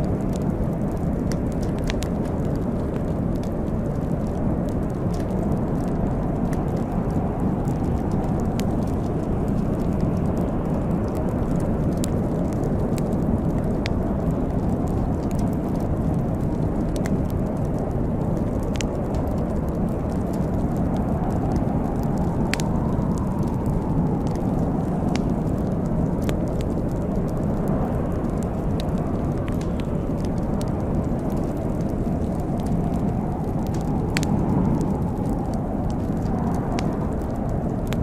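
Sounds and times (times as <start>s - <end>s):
fire popping: 0.0s - 38.0s
wood fire crackling: 0.0s - 38.0s.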